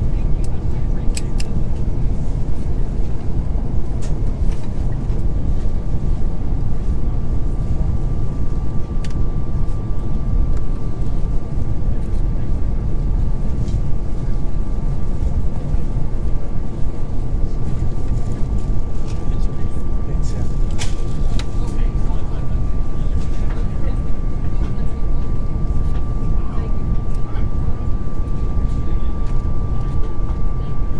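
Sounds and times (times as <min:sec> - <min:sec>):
aircraft cabin rumble in flight: 0:00.0 - 0:30.9
thin steady whine: 0:00.0 - 0:30.9.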